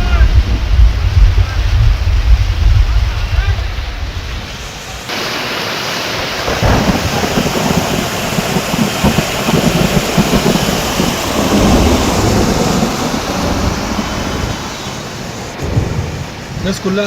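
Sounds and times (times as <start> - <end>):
thunder rolling: 0.0 - 4.7, 6.4 - 17.0
heavy rain: 0.0 - 17.0.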